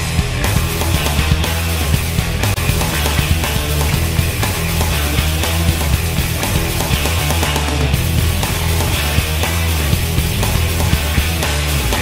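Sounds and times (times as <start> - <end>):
loud rock music: 0.0 - 12.0.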